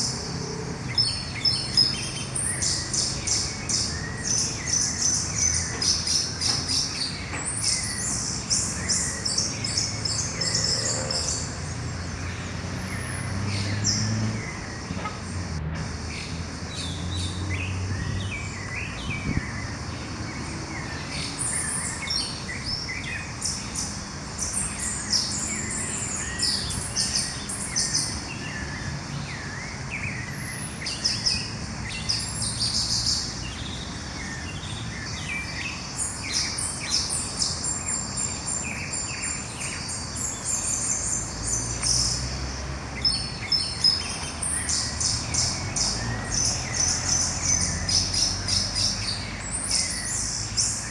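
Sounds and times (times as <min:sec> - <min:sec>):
birds singing and chirping: 0:00.0 - 0:50.9.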